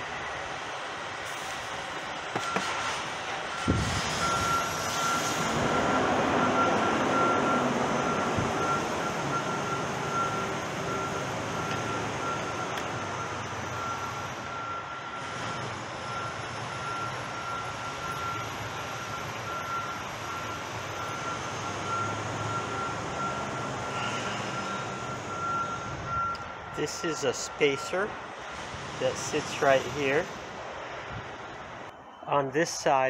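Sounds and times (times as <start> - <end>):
truck engine rumble: 0.0 - 33.0
reversing alarm beeping: 2.3 - 28.4, 31.9 - 33.0.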